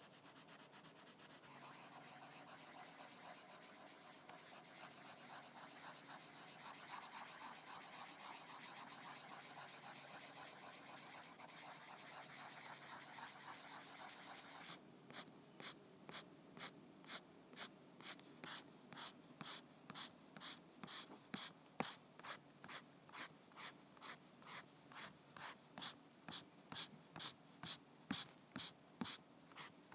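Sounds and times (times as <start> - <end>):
pencil scratching on paper: 0.0 - 14.8, 18.0 - 29.8.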